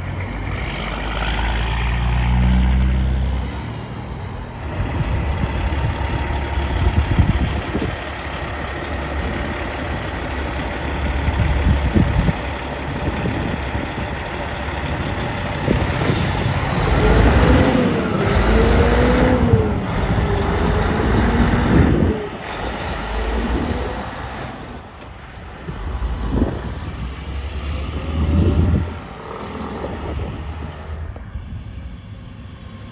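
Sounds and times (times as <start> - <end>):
truck diesel engines rumbling: 0.0 - 32.9.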